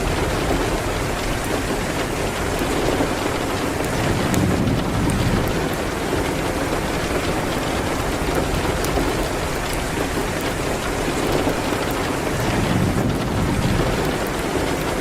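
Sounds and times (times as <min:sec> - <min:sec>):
rain hitting a window: 0:00.0 - 0:15.0
wood fire crackling: 0:00.0 - 0:15.0.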